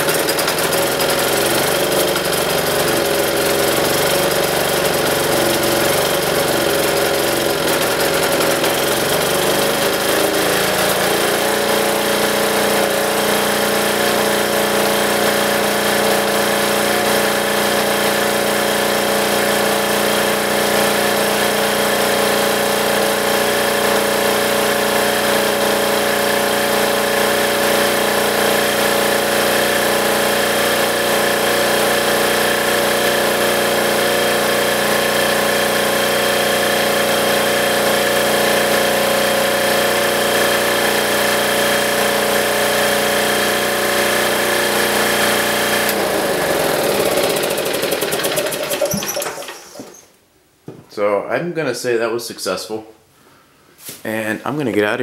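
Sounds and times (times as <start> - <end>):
diesel generator engine running: 0.0 - 50.0
engine winding down: 0.0 - 50.2.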